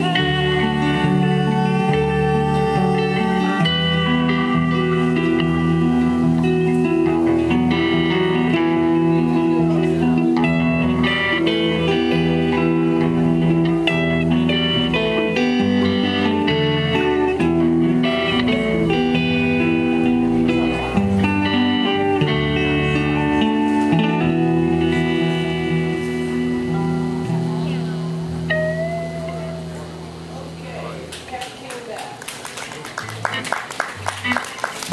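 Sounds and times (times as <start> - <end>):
electric bass: 0.0 - 31.1
electric guitars: 0.0 - 34.9.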